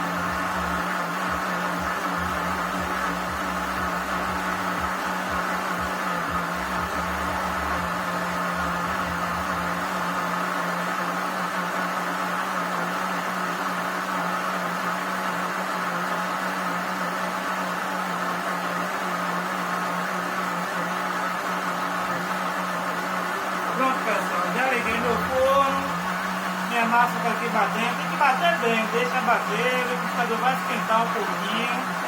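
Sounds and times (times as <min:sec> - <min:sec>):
electric blender running: 0:00.0 - 0:32.0.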